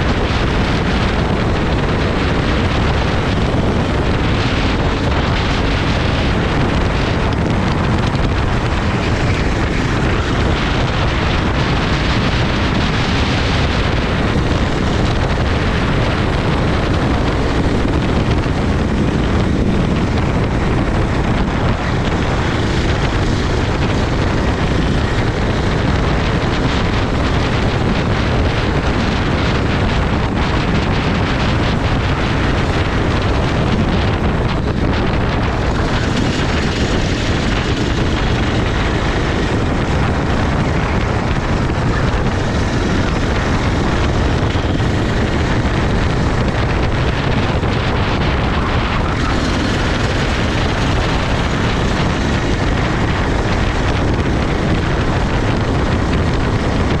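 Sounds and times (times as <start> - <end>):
kart engine running: 0.0 - 57.0
wind rushing over microphone: 0.0 - 57.0.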